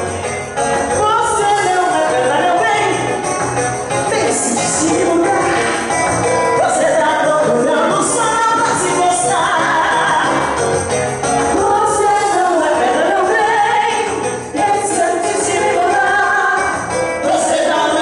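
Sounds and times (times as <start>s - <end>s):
samba music with singing: 0.0s - 18.0s.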